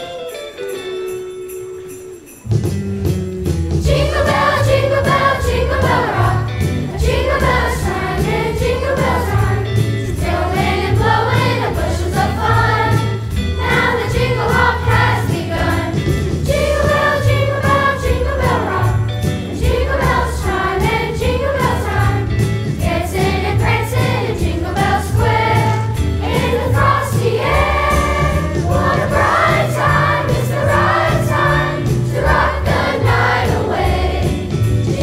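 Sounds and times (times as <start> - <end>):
chorus singing: 3.8 - 35.0
chorus singing a christmas song: 3.8 - 35.0.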